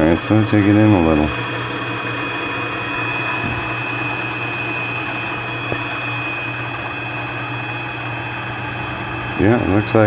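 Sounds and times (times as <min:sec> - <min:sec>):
lathe motor hum with whine: 0:00.0 - 0:10.0.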